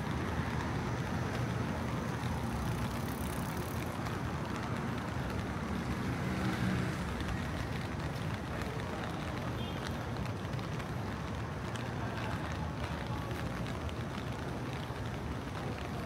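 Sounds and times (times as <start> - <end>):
light rain: 0.0 - 16.0
traffic rumble on wet street: 0.0 - 16.0.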